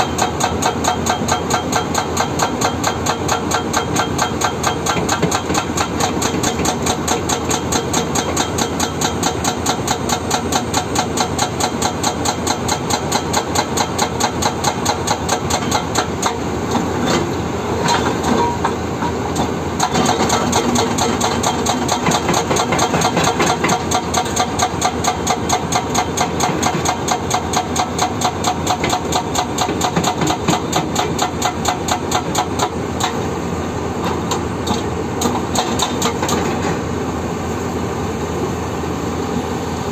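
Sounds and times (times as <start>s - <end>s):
hydraulic breaker hammering rock: 0.0s - 33.3s, 34.0s - 36.8s.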